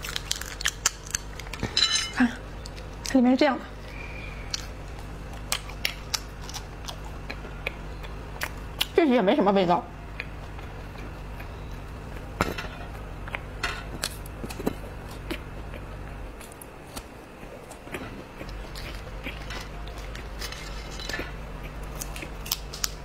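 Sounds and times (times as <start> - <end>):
chewing with crisp clicks: 0.0 - 1.7, 2.6 - 3.2, 4.4 - 9.0, 10.1 - 12.3, 12.9 - 23.0.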